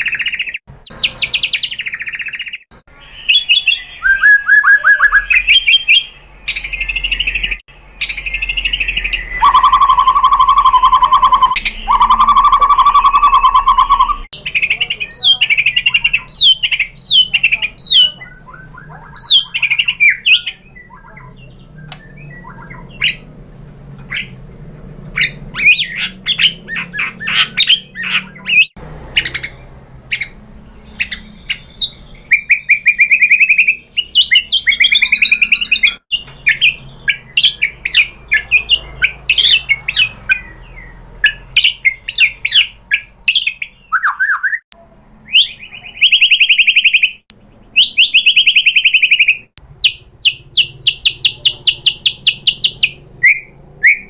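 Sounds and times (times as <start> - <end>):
bird singing whistles and trills: 0.0 - 23.3, 25.1 - 44.6, 45.3 - 54.0.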